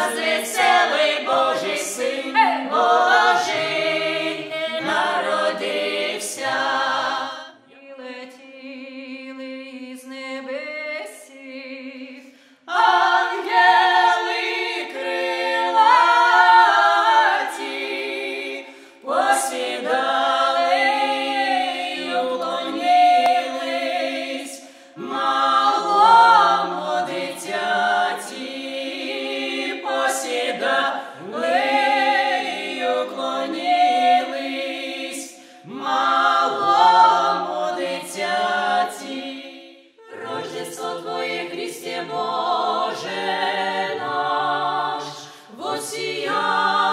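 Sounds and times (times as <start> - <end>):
vocal ensemble singing a cappella: 0.0 - 46.9.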